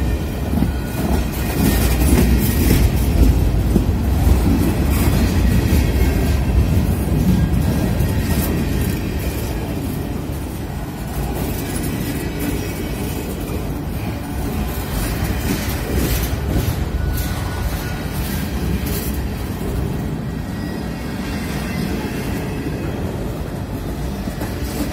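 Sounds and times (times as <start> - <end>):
wheels clacking over rail joints: 0.0 - 20.0
freight train wheels rumbling: 0.0 - 24.9.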